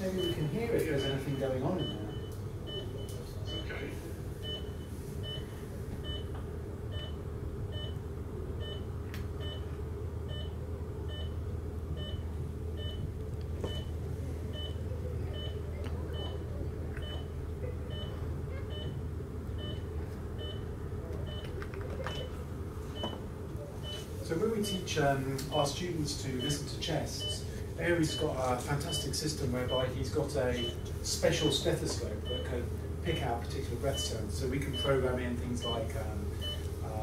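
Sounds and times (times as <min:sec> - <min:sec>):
patient monitor beeping: 0:00.0 - 0:37.0
steady low hum: 0:00.0 - 0:37.0.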